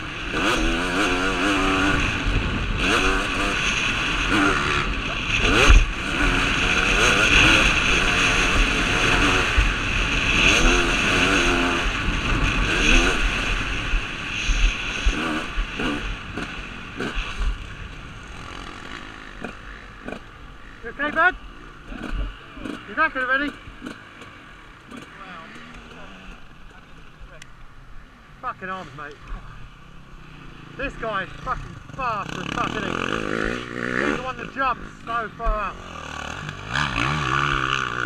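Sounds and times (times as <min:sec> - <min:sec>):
motocross engine revving: 0:00.0 - 0:27.5, 0:28.4 - 0:38.0.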